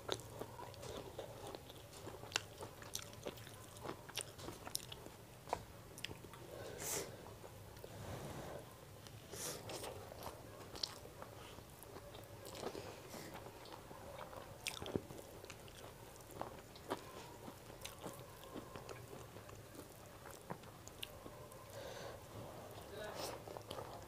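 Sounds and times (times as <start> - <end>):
person chewing food: 0.0 - 7.9, 9.0 - 24.0.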